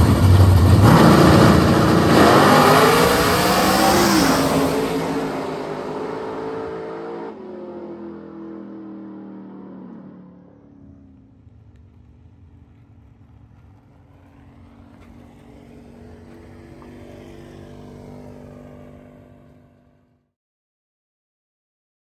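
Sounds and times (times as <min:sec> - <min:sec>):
race car engine rumbling: 0:00.0 - 0:20.0.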